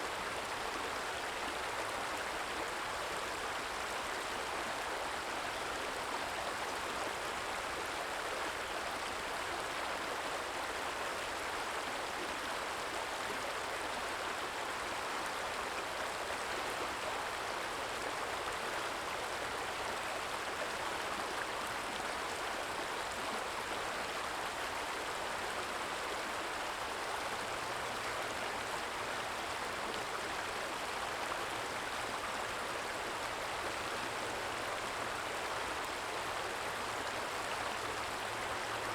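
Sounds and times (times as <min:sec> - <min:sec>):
stream trickling: 0:00.1 - 0:38.9.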